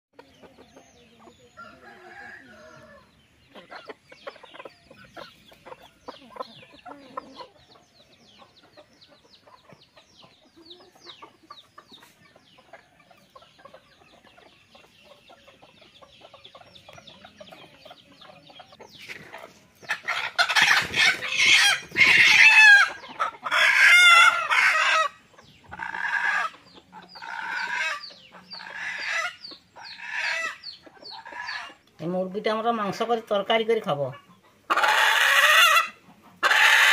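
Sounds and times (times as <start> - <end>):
chickens clucking: 0.1 - 36.9
chickens squawking and cackling: 0.2 - 36.9.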